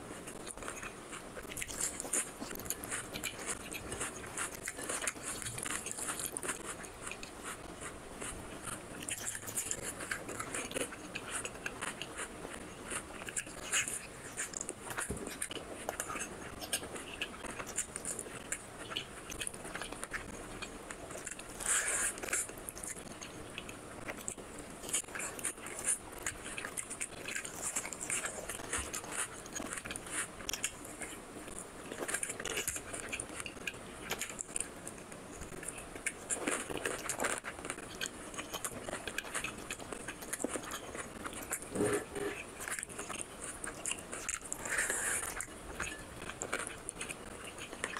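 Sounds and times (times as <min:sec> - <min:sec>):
man chewing with wet smacks: 0:00.0 - 0:47.9.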